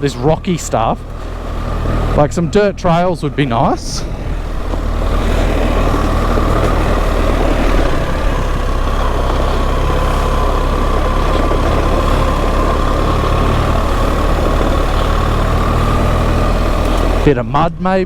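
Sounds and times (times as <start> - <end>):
motorcycle engine running at low revs: 0.0 - 17.8.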